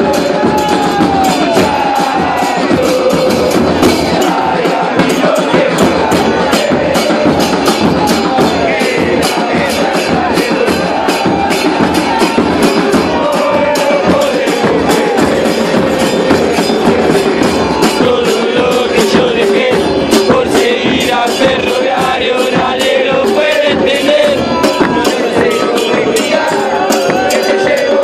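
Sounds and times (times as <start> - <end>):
bass drums beating: 0.0 - 28.0
crowd chanting: 0.0 - 28.0.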